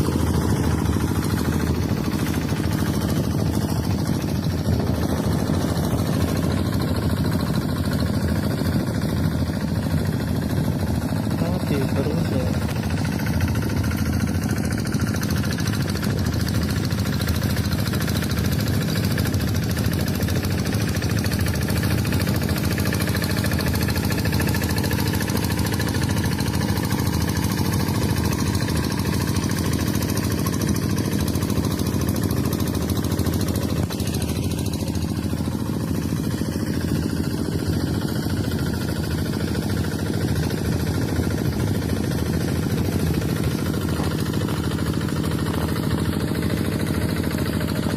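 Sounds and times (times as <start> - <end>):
tractor engine droning: 0.0 - 47.9.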